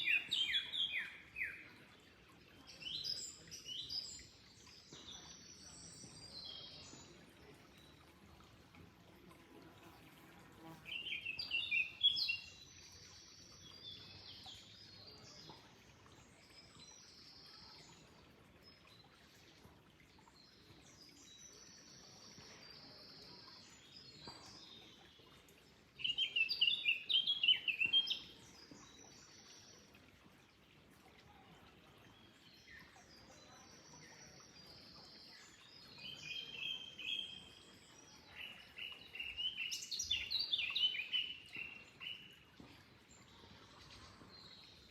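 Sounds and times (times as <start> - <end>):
songbirds chirping and trilling: 0.0 - 8.8, 9.8 - 44.9
faint flowing water: 0.0 - 44.9.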